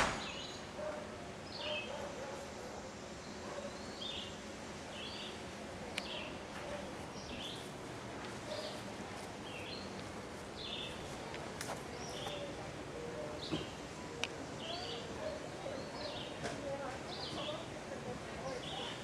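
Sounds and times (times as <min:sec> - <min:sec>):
faint outdoor hiss: 0:00.0 - 0:19.0
songbird chirping: 0:00.0 - 0:19.0.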